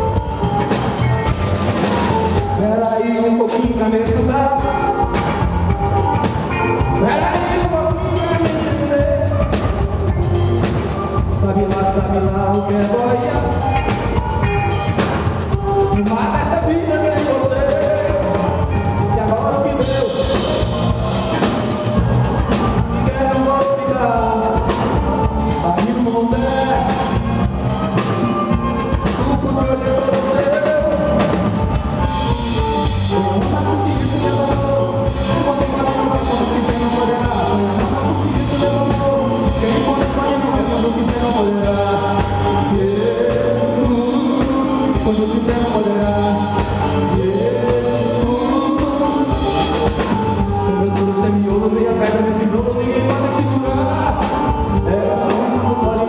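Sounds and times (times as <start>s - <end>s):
live band through pa: 0.0s - 56.0s.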